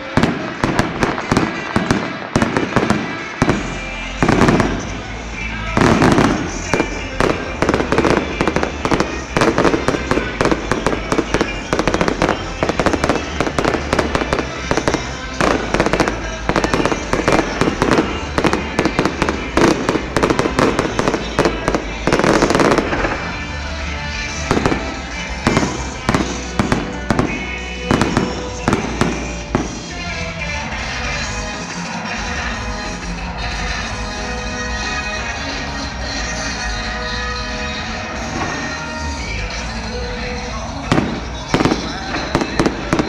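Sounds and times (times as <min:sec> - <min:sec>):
fireworks bangs and crackles: 0:00.0 - 0:34.4, 0:35.0 - 0:43.0.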